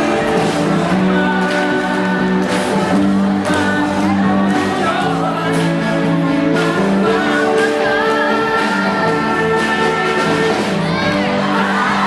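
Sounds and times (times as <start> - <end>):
live band music: 0.0 - 12.0
person singing: 0.0 - 12.0.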